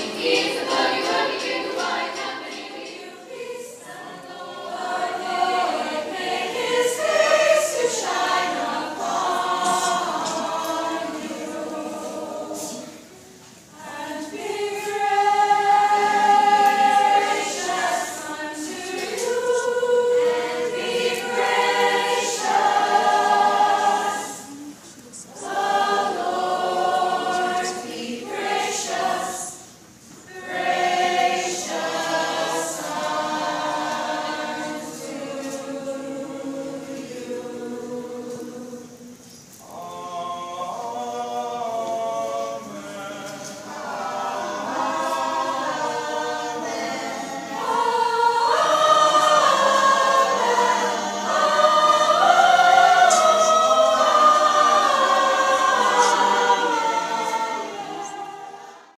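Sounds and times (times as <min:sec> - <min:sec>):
choir singing in harmony: 0:00.0 - 0:58.9.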